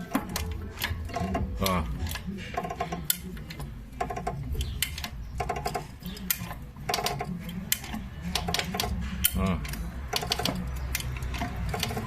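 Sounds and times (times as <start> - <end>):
car suspension clicking: 0.0 - 12.0.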